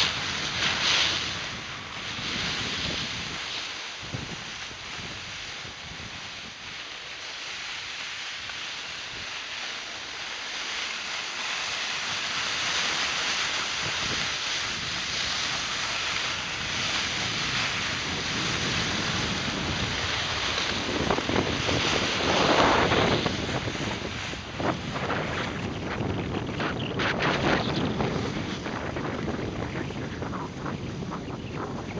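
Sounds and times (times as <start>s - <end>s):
wind rushing over microphone: 0.0s - 6.9s, 10.9s - 31.9s
skis sliding on snow: 0.0s - 31.9s.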